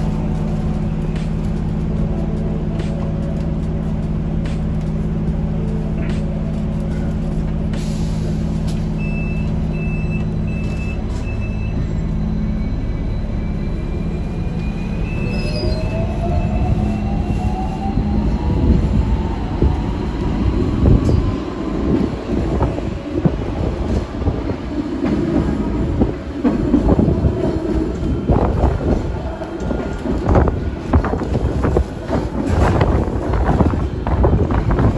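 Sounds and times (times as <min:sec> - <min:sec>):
wheels rumbling on rails: 0:00.0 - 0:34.9.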